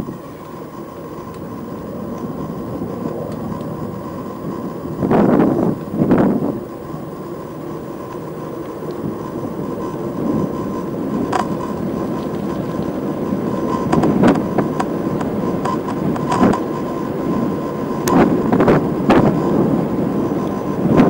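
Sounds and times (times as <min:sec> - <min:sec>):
faint constant tone: 0:00.0 - 0:21.0
low outdoor rumble: 0:00.0 - 0:21.0.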